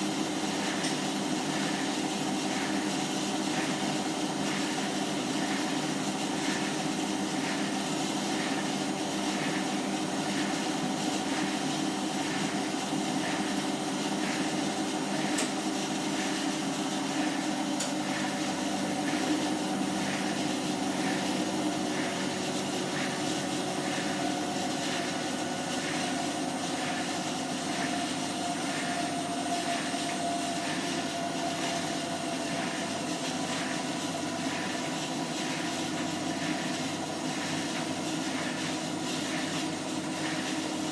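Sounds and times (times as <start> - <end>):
washing machine spinning hum: 0.0 - 40.9.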